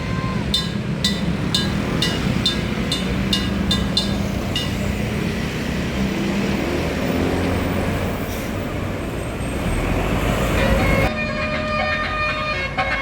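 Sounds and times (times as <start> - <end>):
bus engine and tyre noise: 0.0 - 13.0.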